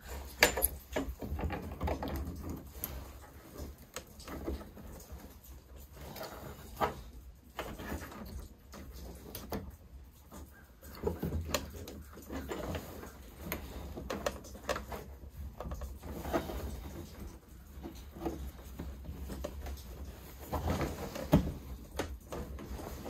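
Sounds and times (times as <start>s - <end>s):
small clicks taps and rustles: 0.0s - 23.0s.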